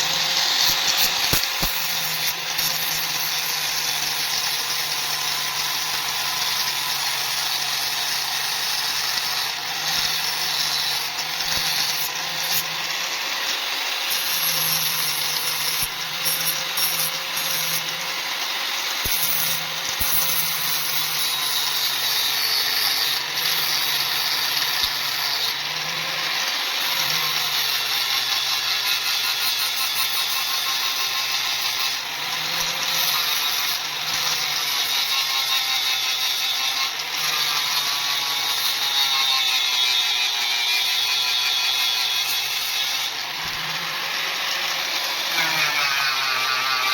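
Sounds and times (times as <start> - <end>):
electric grinder grinding steel: 0.0 - 46.9.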